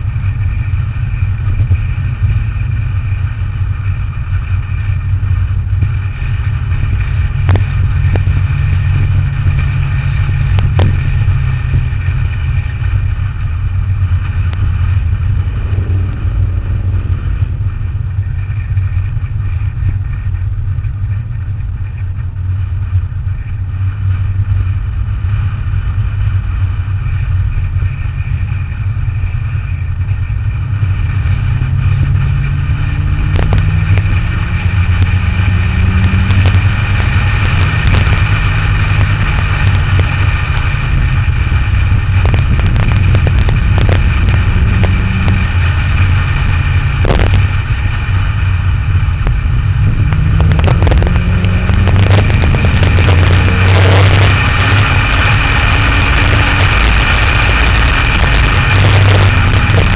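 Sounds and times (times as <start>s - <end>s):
road noise: 0.0s - 59.9s
sports car engine drone: 0.0s - 59.9s.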